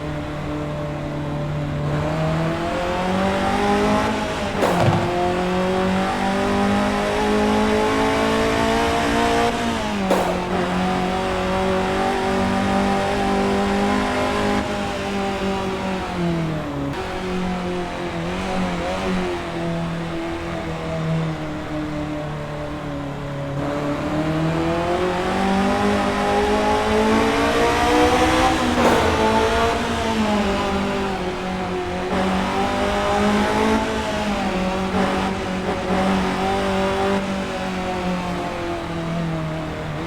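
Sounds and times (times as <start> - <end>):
car engine accelerating hard: 0.0 - 40.0.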